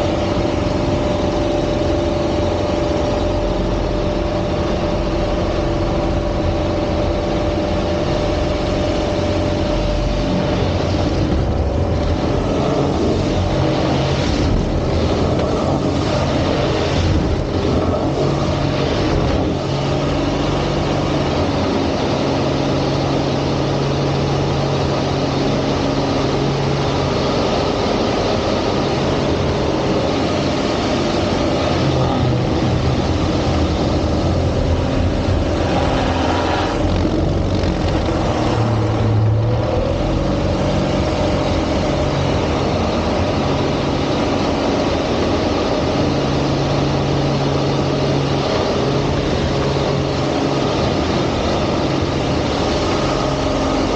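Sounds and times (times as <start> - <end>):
airplane piston engine and propeller: 0.0 - 53.9.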